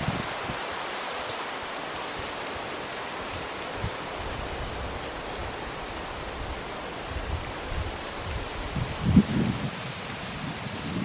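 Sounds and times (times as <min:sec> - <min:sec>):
wind rumble on microphone: 0:00.0 - 0:00.9, 0:01.9 - 0:11.0
melting snow dripping off roof: 0:00.2 - 0:09.2.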